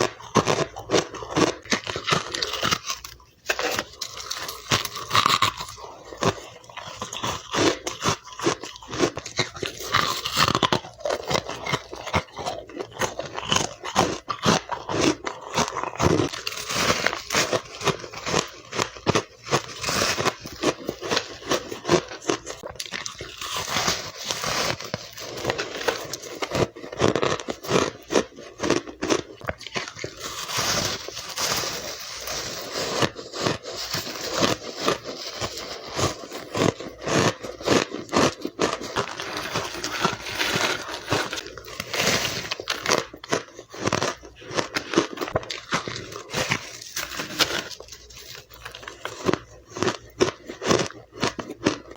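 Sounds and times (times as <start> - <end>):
person crunching ice: 0.0 - 51.9.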